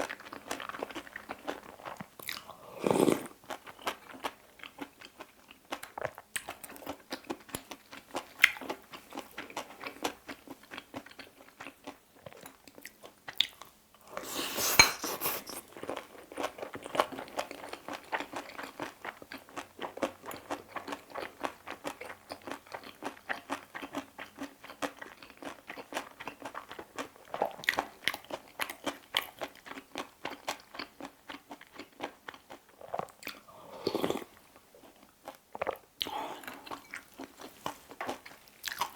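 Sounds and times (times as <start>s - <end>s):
close chewing and crunching: 0.0s - 14.4s, 15.0s - 38.9s.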